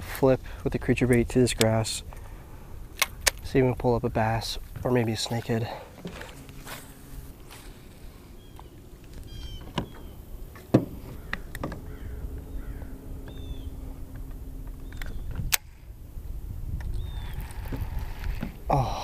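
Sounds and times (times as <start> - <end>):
low steady hum: 0.0 - 19.0
birds chirping: 0.8 - 19.0.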